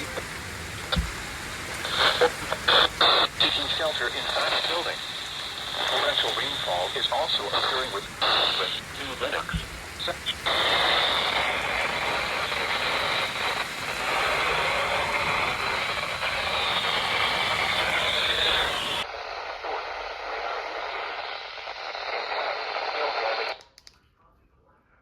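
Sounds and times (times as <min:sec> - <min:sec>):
radio static hiss: 0:00.0 - 0:23.7.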